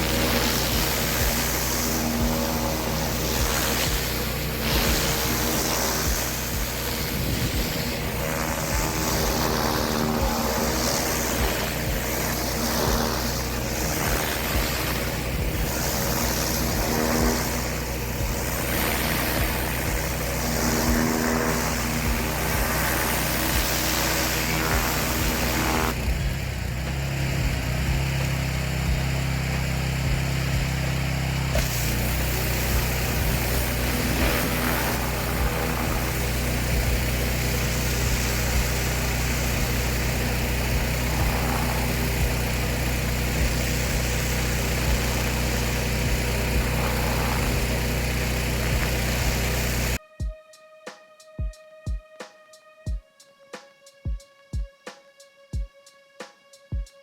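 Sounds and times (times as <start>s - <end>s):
high-pressure water spray hiss: 0.0s - 26.1s, 26.8s - 50.0s
pressure washer engine running: 0.0s - 50.0s.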